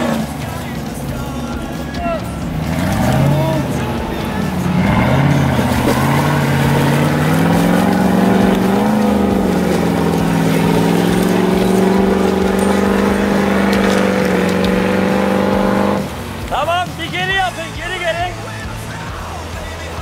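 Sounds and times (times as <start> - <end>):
engine revving hard under load: 0.0 - 20.0.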